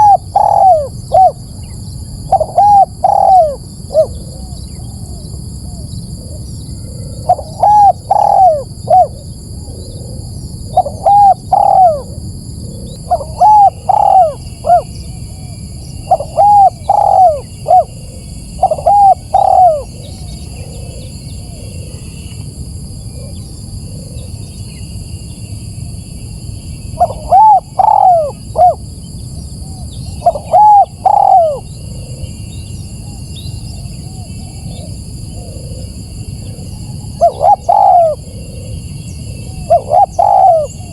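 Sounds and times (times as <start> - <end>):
dove cooing: 0.0 - 22.1, 27.0 - 28.8, 30.1 - 32.3, 34.1 - 40.9
steady high-pitched hum: 0.0 - 40.9.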